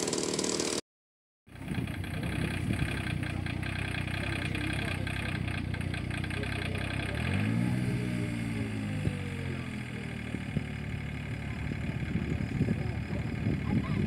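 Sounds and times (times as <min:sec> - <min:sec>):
engine idling: 0:00.0 - 0:00.8, 0:01.5 - 0:14.0.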